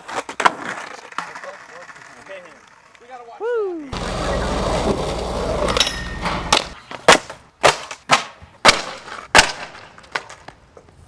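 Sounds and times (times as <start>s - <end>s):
skateboard deck clacking on ground: 0.0s - 3.0s, 4.8s - 11.0s.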